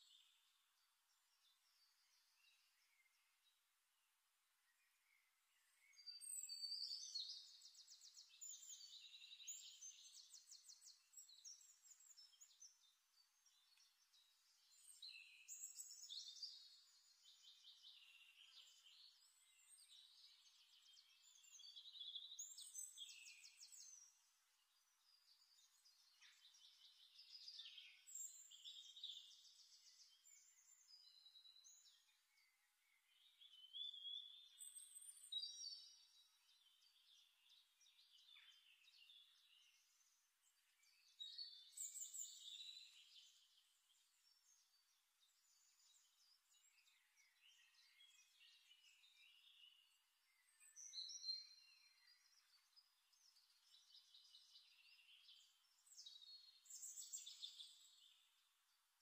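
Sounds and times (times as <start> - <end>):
faint birdsong trills: 0.0 - 59.0.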